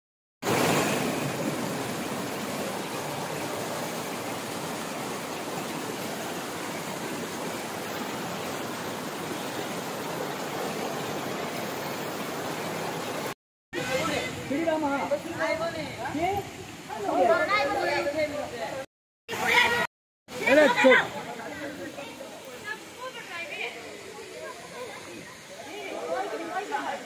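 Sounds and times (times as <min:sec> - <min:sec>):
stream water rushing over boulders: 0:00.4 - 0:27.0.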